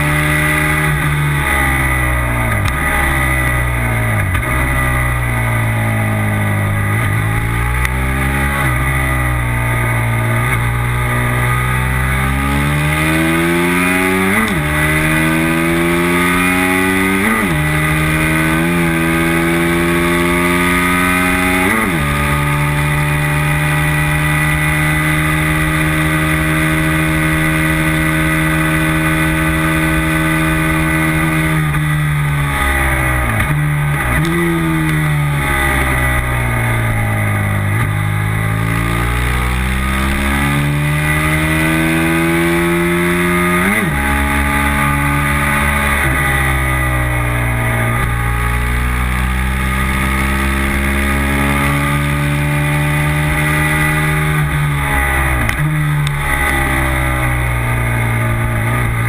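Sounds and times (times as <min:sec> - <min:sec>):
racing motorcycle engine: 0:00.0 - 0:59.0.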